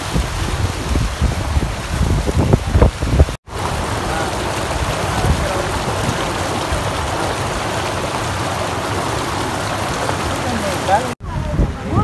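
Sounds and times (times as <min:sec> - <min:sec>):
water rushing through culvert: 0:00.0 - 0:12.0.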